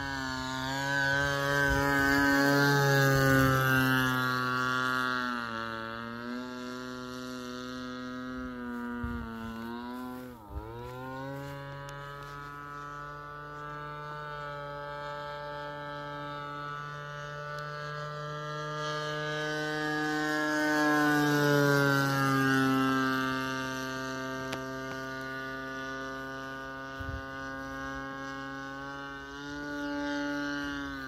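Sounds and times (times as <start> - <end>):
model airplane engine: 0.0 - 31.0.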